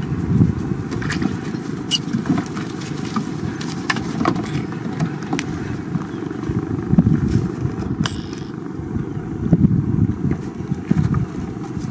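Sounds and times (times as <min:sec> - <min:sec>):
motor low rumble: 0:00.0 - 0:11.9.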